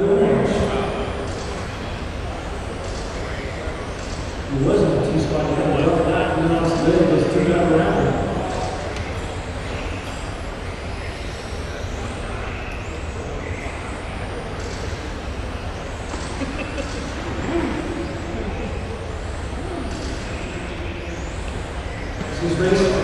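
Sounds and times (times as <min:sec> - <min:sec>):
low hall hum: 0:00.0 - 0:23.0.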